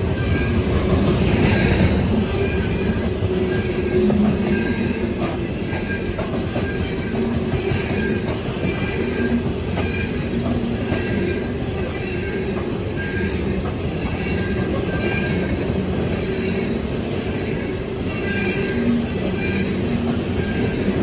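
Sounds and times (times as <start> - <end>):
train wheels rumbling on rail: 0.0 - 21.0
high wheel squeals: 0.2 - 21.0.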